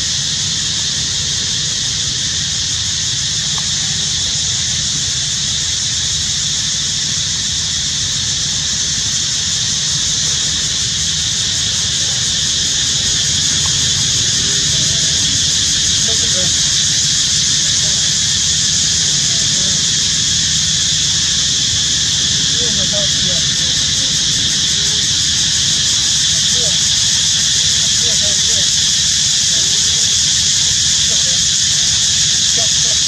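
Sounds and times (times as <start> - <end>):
steady high hiss: 0.0 - 33.0.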